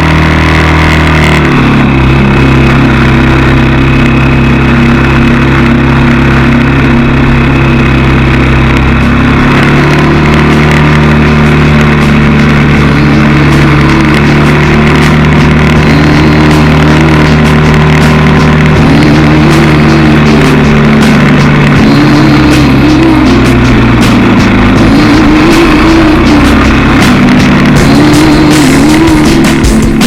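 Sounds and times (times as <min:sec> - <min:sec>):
motorbike engine running: 0:00.0 - 0:30.0.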